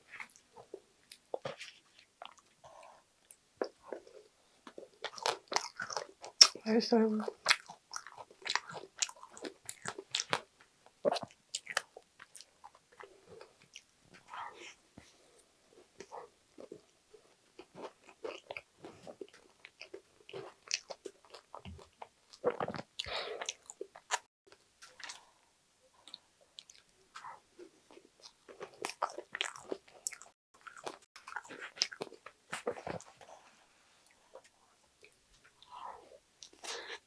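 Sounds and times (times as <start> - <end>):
chewing and mouth sounds: 0.0 - 6.6, 7.2 - 15.1, 15.8 - 25.3, 26.0 - 33.3.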